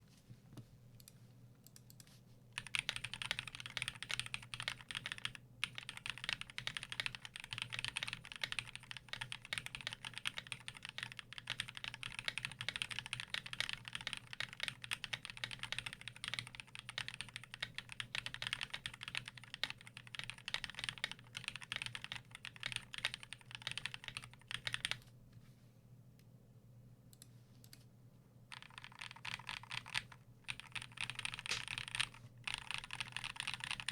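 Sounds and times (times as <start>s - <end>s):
mechanical keyboard typing: 2.6s - 25.1s, 28.5s - 33.9s.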